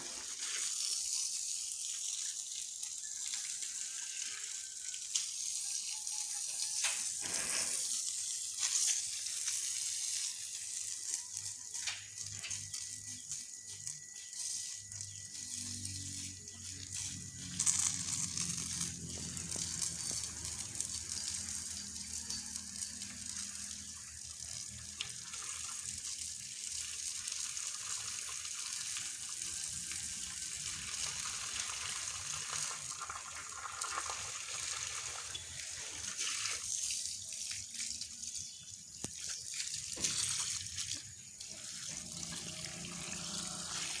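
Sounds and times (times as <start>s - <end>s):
water running and splashing: 0.0s - 44.0s.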